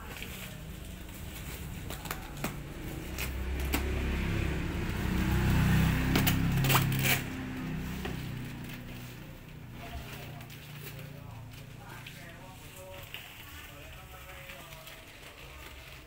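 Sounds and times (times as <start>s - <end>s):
cardboard and paper crinkling: 0.0s - 4.1s, 6.1s - 16.0s.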